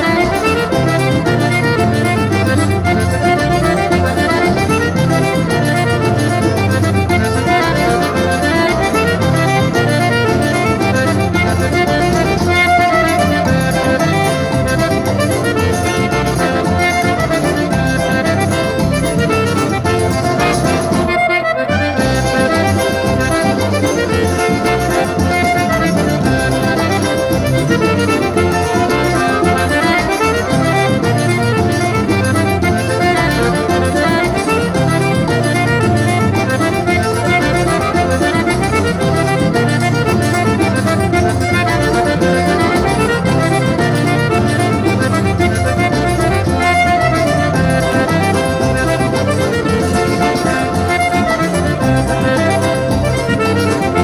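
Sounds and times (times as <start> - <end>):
accordion-led folk dance music: 0.0 - 54.0.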